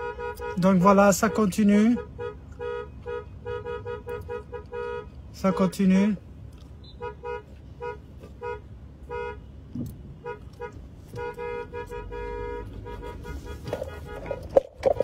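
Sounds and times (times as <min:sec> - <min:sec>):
car horn honking: 0:00.0 - 0:06.2, 0:06.8 - 0:15.0.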